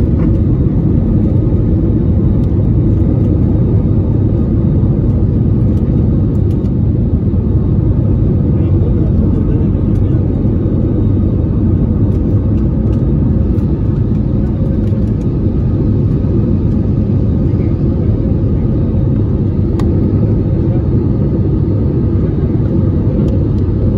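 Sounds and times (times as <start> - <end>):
jet engine cabin rumble: 0.0 - 23.9.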